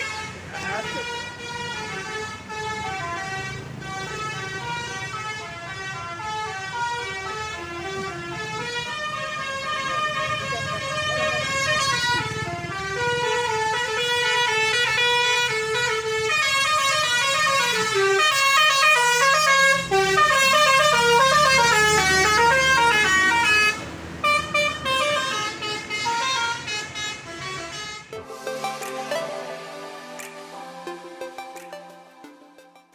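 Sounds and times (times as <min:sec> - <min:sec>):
melodic multi-tone air horn: 0:00.0 - 0:32.9.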